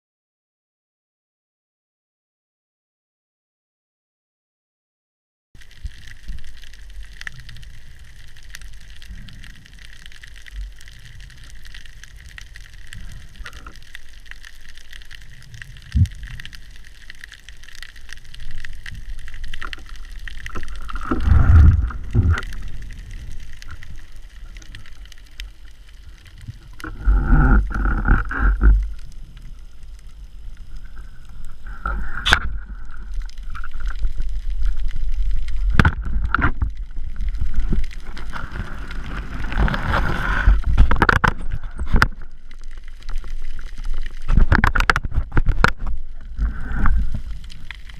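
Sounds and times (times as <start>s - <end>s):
gurgling water surges: 5.6s - 47.9s
low underwater rumble: 5.8s - 47.9s.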